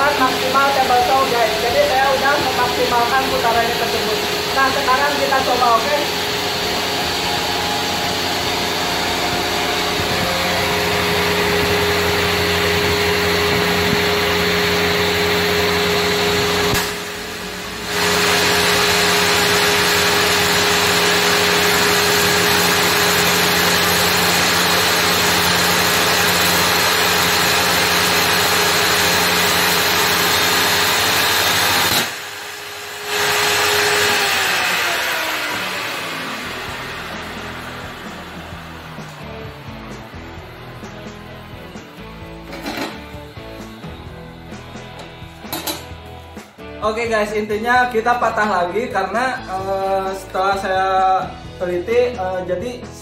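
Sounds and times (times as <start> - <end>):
table saw motor whining: 0.0 - 46.5.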